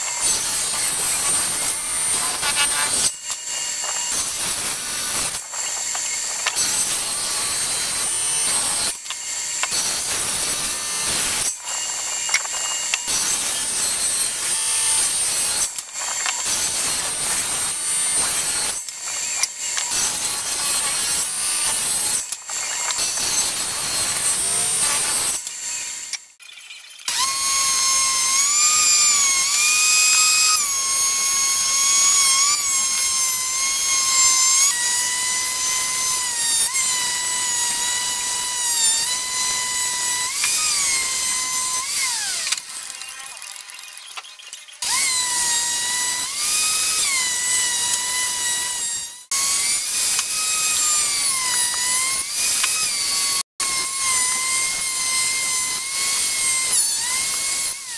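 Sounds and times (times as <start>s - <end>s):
table saw cutting wood: 0.0s - 57.9s
thickness planer whine: 0.0s - 57.9s.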